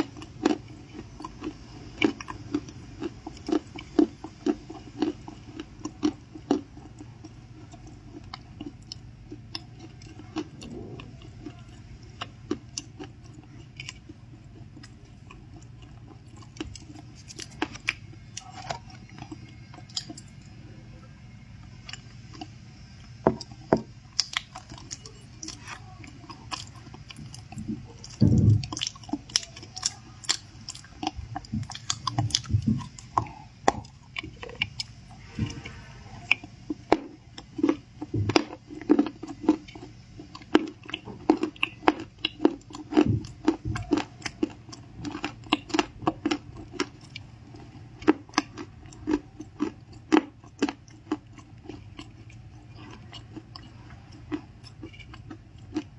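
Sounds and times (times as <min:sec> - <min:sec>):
chewing crunchy cookies: 0:00.0 - 0:55.9.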